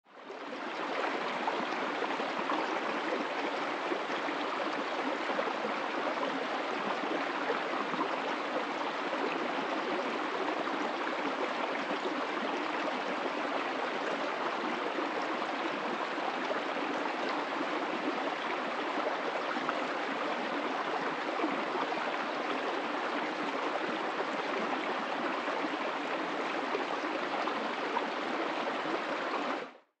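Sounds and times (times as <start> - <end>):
stream running over rocks: 0.2 - 29.6.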